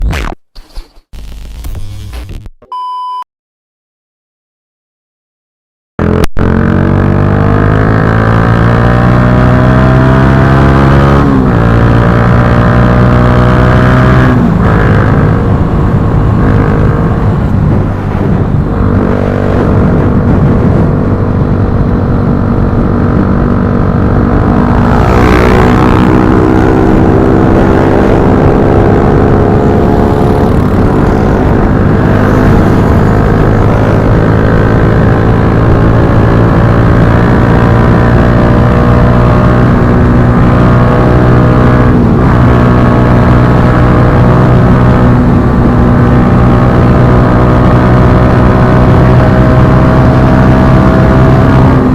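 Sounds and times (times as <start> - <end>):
motorcycle engine accelerating: 6.0 - 51.9.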